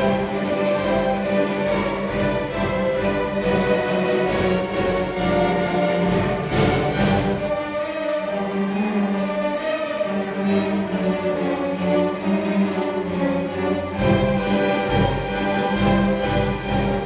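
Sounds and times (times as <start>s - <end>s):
orchestral music with held notes: 0.0s - 17.0s.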